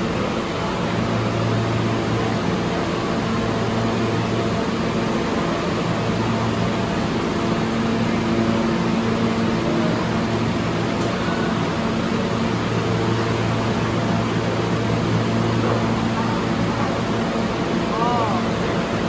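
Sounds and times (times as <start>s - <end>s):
subway train hum and rush: 0.0s - 19.0s.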